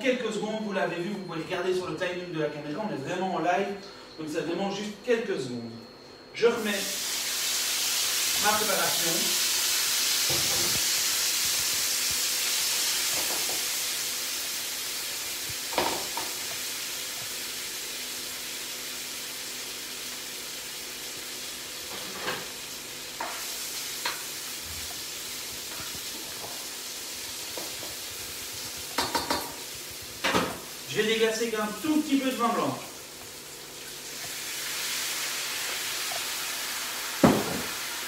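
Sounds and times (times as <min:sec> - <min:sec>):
food sizzling in a frying pan: 0:06.6 - 0:38.0.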